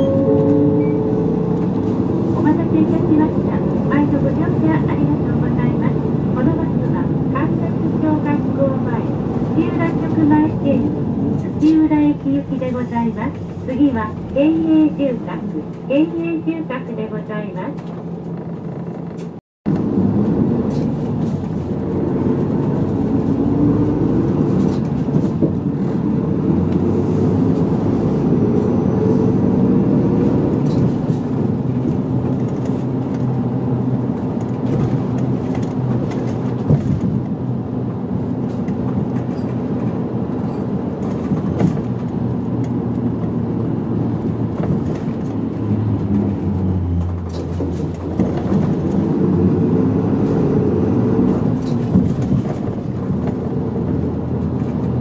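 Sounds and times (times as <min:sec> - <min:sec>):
bus engine accelerating: 0:00.0 - 0:55.0
road noise: 0:00.0 - 0:55.0.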